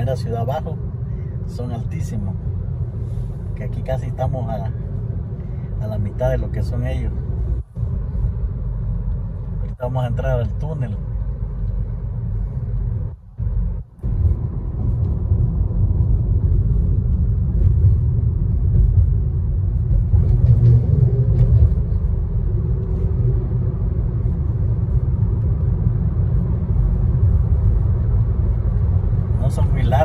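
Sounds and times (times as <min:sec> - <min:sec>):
car cabin road noise: 0:00.0 - 0:30.0.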